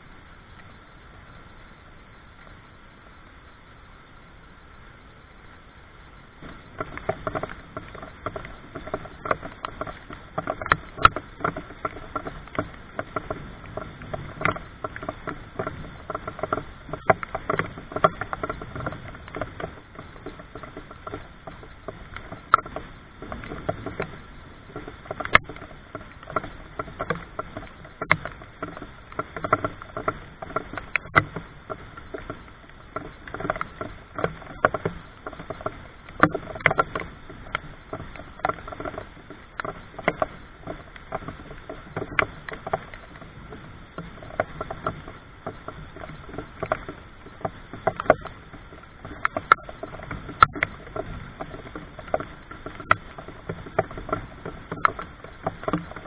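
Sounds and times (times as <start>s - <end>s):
steady hiss: 0.0s - 56.0s
rain drops tapping: 6.3s - 56.0s.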